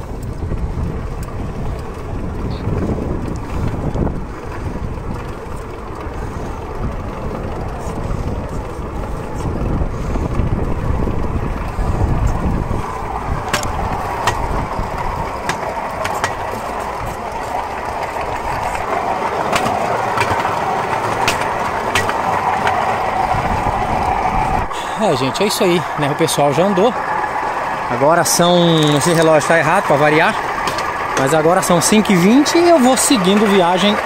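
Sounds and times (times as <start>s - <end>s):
steel wheels rumbling on track: 0.0s - 34.0s
wind buffeting microphone: 0.0s - 34.0s.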